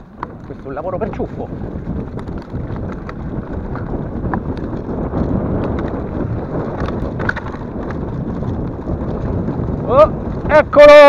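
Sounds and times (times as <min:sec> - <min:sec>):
bike rattling and clicking: 0:00.0 - 0:11.0
tyres rumbling on dirt: 0:00.0 - 0:11.0
wind on microphone: 0:00.0 - 0:11.0.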